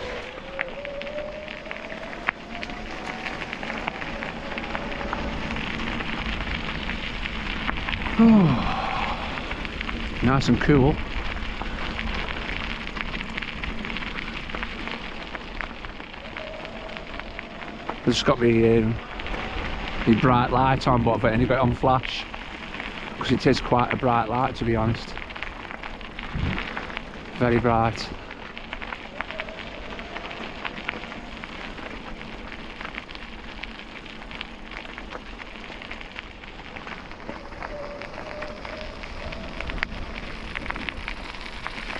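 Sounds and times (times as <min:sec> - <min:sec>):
tyres rolling over rough path: 0:00.0 - 0:41.9
wind rumbling on microphone: 0:00.0 - 0:41.9.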